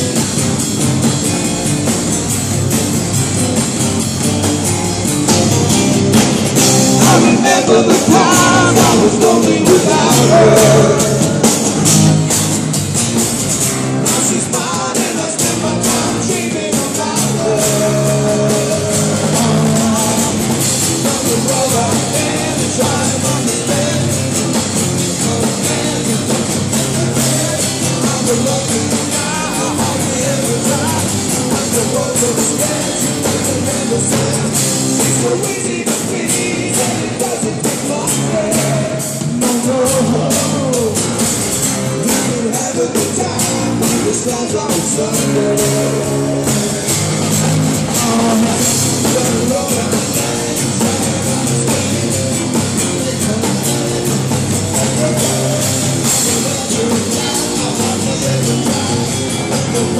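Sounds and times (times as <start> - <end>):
drum kit beat: 0.0 - 59.9
electric bass guitar: 0.0 - 59.9
man singing: 6.6 - 11.9, 14.0 - 59.9.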